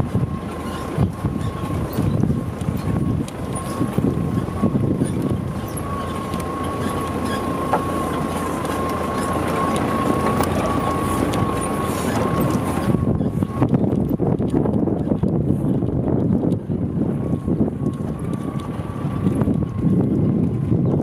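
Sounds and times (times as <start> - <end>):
steady whine: 0.0 - 21.0
vehicle engine rumbling: 0.0 - 21.0.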